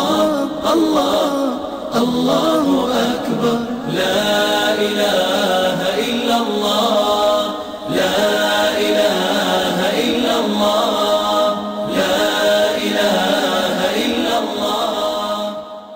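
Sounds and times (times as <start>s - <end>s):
voices chanting a slow melody: 0.0s - 15.9s.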